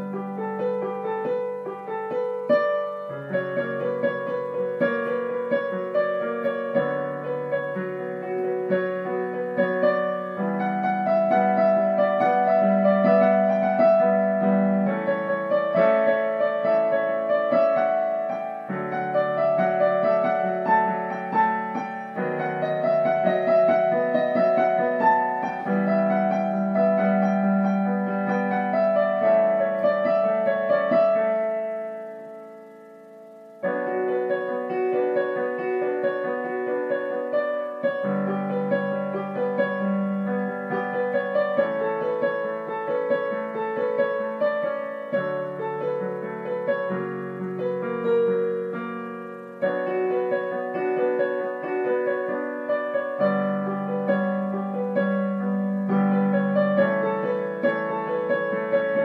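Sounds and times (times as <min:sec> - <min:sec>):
slow piano music: 0:00.0 - 0:59.0.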